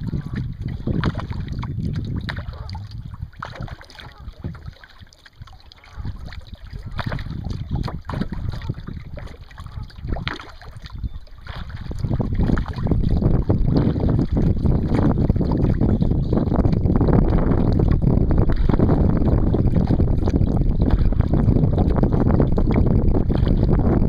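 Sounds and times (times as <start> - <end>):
kayak paddle strokes splashing: 0.0 - 24.0
wind buffeting microphone: 0.0 - 24.0.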